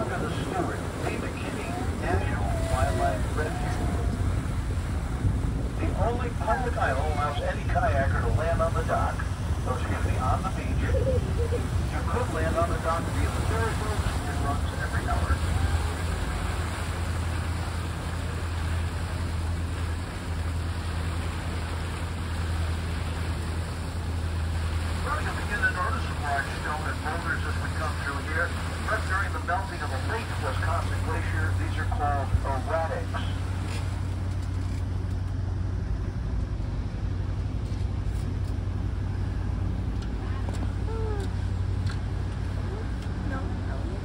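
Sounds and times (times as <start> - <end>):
boat engine droning: 0.0 - 44.0
rushing water and wind: 0.0 - 44.0.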